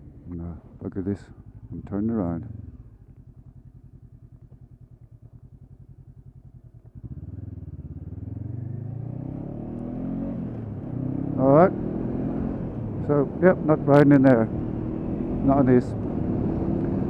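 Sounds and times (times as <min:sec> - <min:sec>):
motorcycle engine idling and accelerating: 0:00.0 - 0:17.0.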